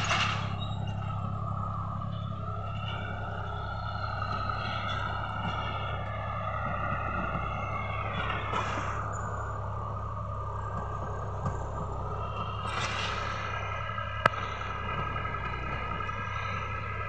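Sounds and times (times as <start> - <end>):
high wavering whine: 0.0 - 17.0
tractor engine droning: 0.0 - 17.0.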